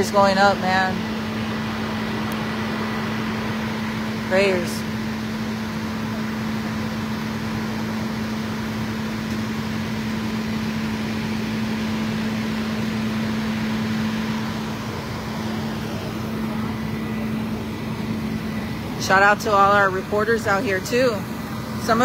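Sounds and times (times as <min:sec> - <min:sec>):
low mechanical drone: 0:00.0 - 0:22.0
outdoor noise: 0:00.0 - 0:22.0.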